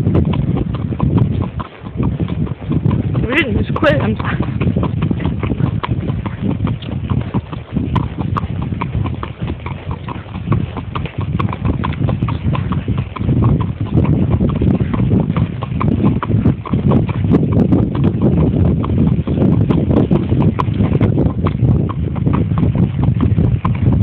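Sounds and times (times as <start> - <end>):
horse hooves on stony trail: 0.0 - 24.0.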